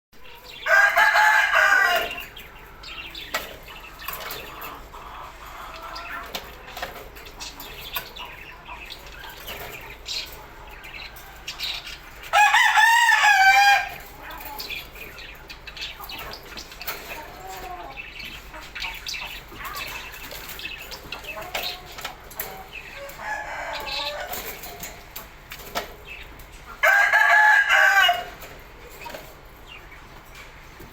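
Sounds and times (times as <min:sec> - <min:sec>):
loud wavering bird calls: 0:00.2 - 0:30.7.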